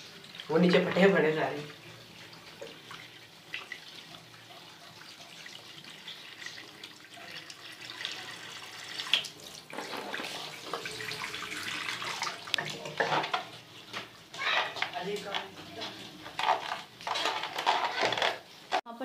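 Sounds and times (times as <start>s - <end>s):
water running from a tap: 0.0s - 18.6s.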